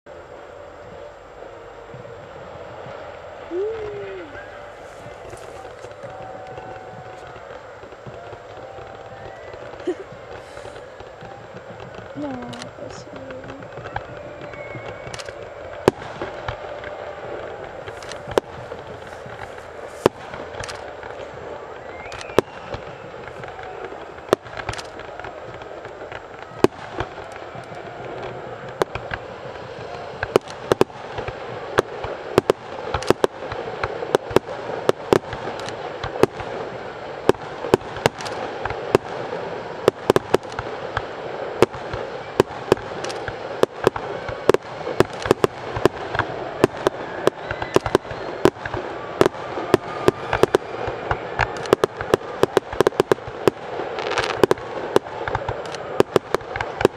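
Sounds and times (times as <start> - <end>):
fireworks bangs and crackling: 0.1 - 56.9
steady noisy background: 0.1 - 56.9.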